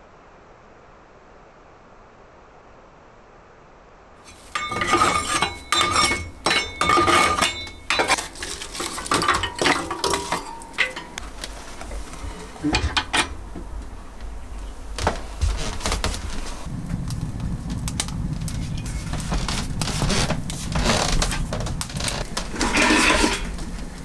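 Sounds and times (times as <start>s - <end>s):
cutlery and pots clattering: 4.3s - 24.0s.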